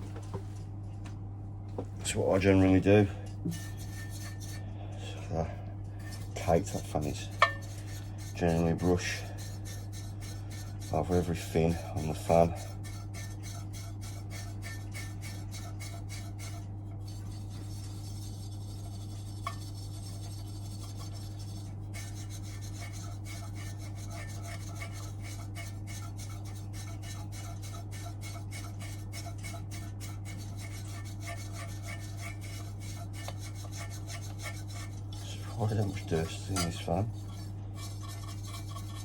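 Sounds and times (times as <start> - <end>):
steady low hum: 0.0 - 39.0
brush scrubbing fan fins: 2.0 - 39.0.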